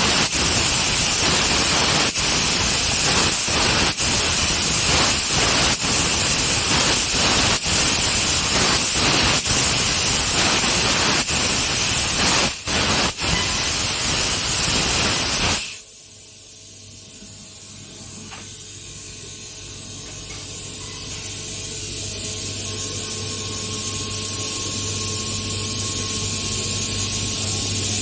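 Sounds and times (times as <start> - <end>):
laser cutter air hissing: 0.0 - 19.9, 20.6 - 28.0.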